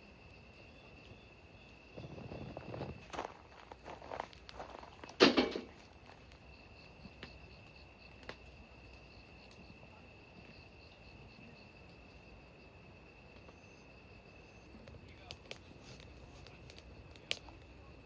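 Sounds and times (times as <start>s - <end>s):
high-pitched insect trill: 0.0s - 14.9s.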